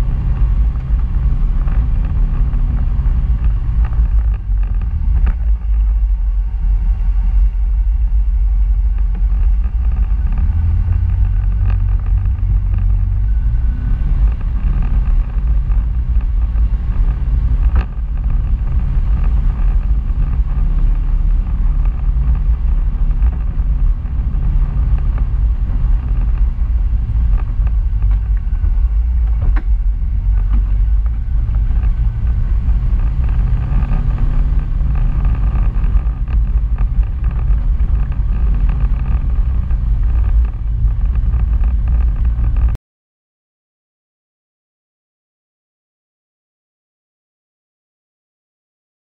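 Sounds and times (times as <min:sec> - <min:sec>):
off-road vehicle engine running: 0:00.0 - 0:42.8.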